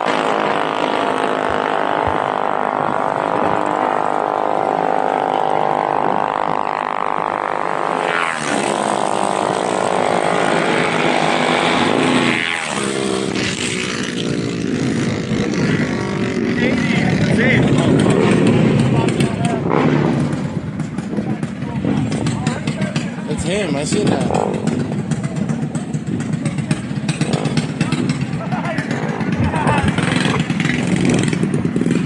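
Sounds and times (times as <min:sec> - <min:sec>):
mini bike engines revving: 0:00.0 - 0:32.0.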